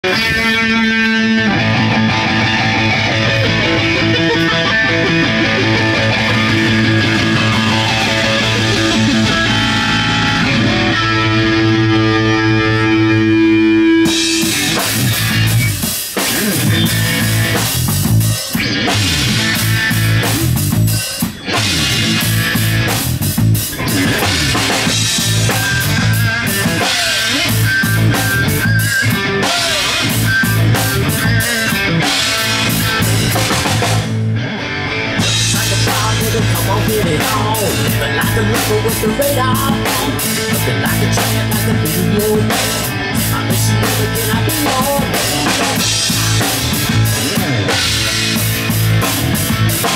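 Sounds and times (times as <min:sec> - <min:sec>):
bass guitar: 0:00.0 - 0:49.9
electric guitar: 0:00.0 - 0:49.9
drum kit with cymbals: 0:01.9 - 0:34.2, 0:35.2 - 0:49.9.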